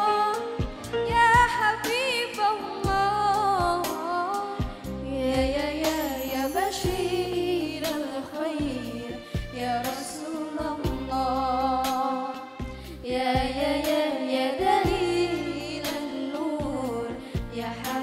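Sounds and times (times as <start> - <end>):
amplified backing music: 0.0 - 18.0
woman singing into microphone: 0.0 - 18.0.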